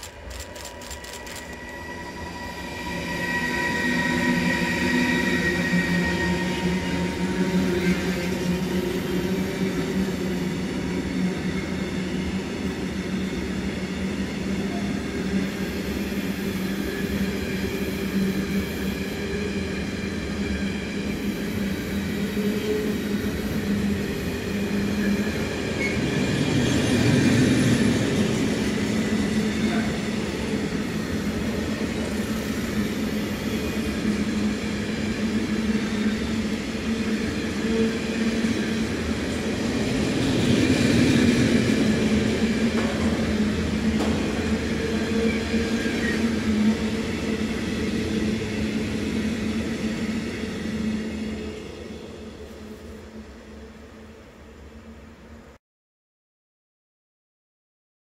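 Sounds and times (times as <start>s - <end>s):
train wheels rumbling on rails: 0.0s - 53.6s.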